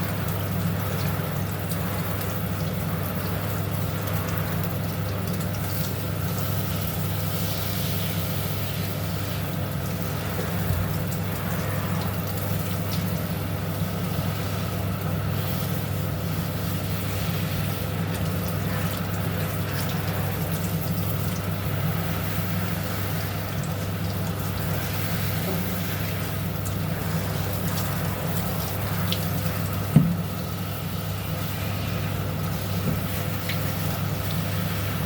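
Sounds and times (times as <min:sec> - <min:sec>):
shower water running: 0:00.0 - 0:35.0.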